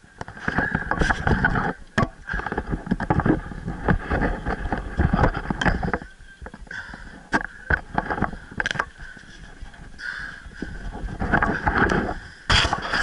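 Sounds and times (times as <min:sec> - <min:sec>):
clicks knocks and scraping: 0:00.2 - 0:09.9, 0:10.6 - 0:13.0.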